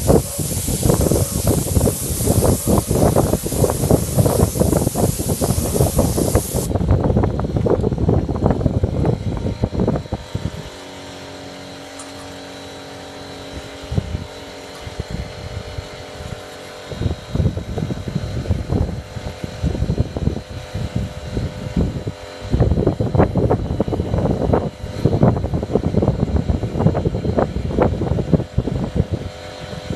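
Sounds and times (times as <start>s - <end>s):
wind on microphone: 0.0s - 10.8s, 13.5s - 29.9s.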